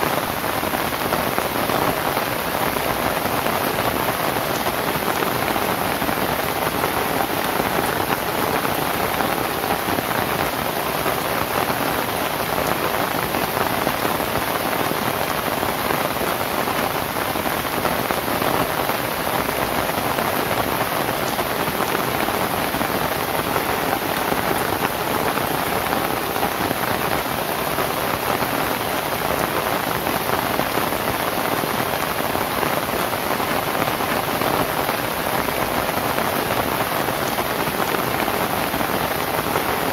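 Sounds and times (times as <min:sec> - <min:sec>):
rain on a thatched roof: 0:00.0 - 0:39.9.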